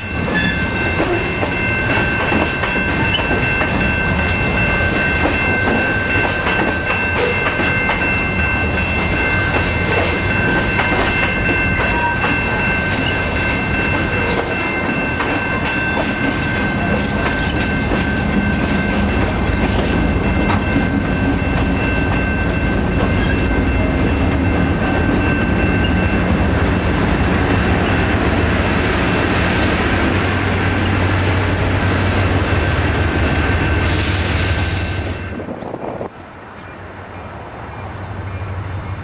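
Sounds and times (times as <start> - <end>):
train wheel clatter: 0.0 - 36.1
diesel locomotive engine rumble: 0.0 - 39.0.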